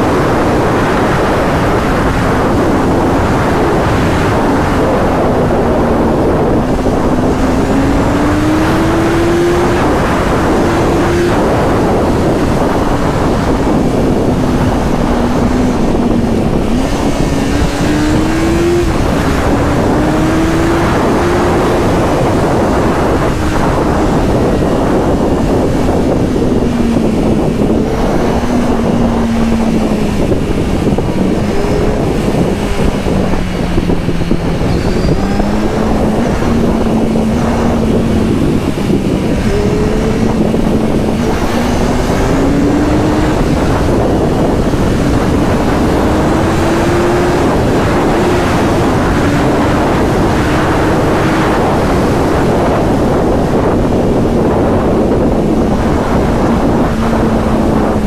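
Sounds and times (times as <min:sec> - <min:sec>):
motorcycle engine at speed: 0:00.0 - 0:58.0
wind and road noise: 0:00.0 - 0:58.0.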